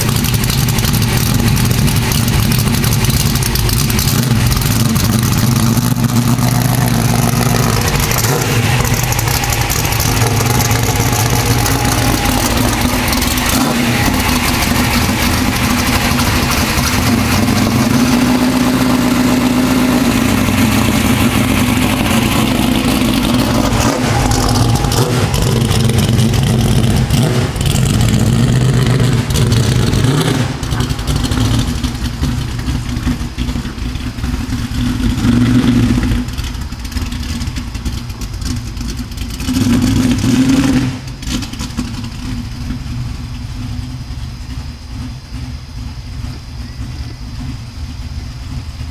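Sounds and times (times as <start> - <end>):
car engine through exhaust: 0.0 - 48.9.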